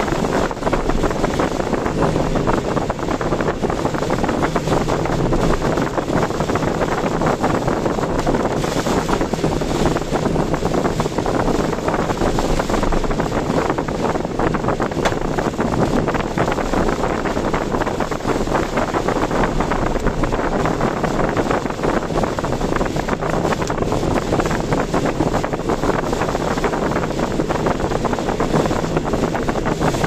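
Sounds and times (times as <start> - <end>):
car road noise: 0.0 - 30.0
wind and rain against car: 0.0 - 30.0.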